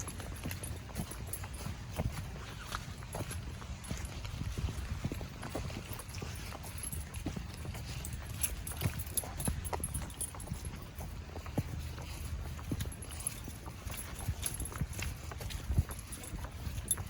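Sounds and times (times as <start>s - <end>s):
footsteps on wet trail: 0.0s - 17.0s.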